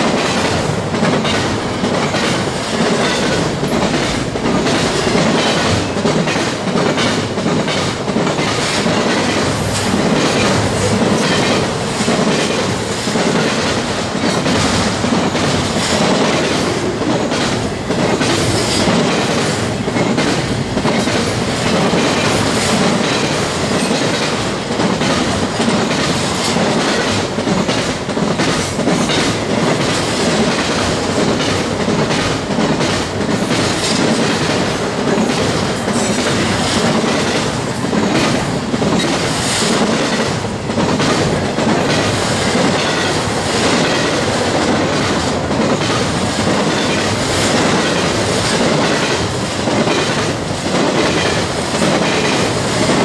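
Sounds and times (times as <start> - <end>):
freight train rumbling past: 0.0 - 53.0
wheels clacking over rail joints: 0.0 - 53.0.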